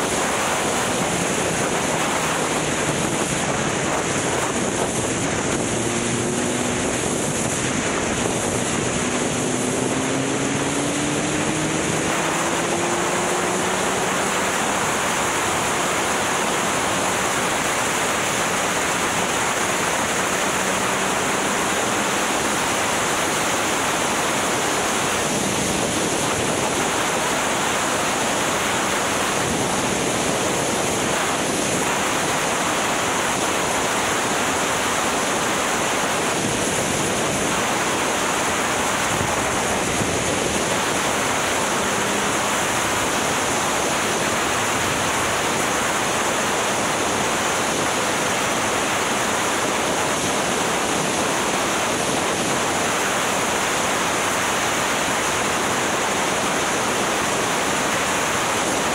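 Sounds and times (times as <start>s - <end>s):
wind buffeting microphone: 0.0s - 56.2s.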